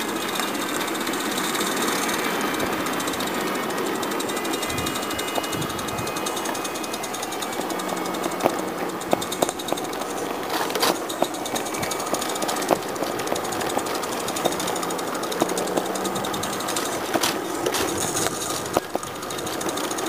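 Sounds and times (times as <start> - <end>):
sharp clicks: 0.0 - 20.0
steam locomotive exhaust beats: 0.0 - 20.0.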